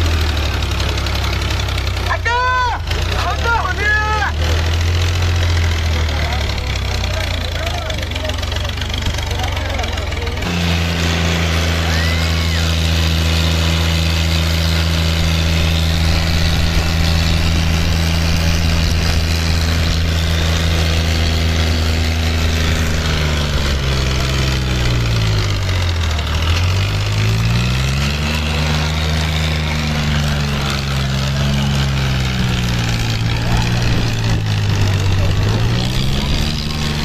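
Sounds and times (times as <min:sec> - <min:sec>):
tractor diesel engines under load: 0:00.0 - 0:37.0.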